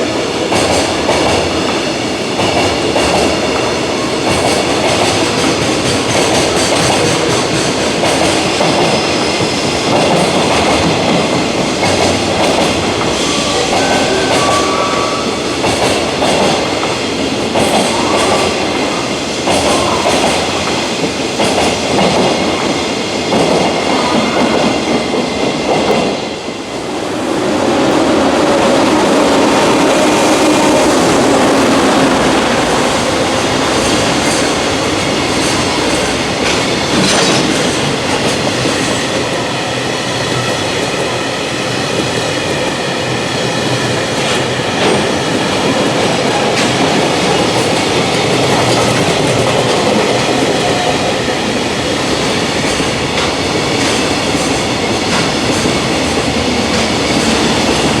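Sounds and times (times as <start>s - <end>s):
train wheels clattering on rails: 0.0s - 26.8s, 28.5s - 58.0s.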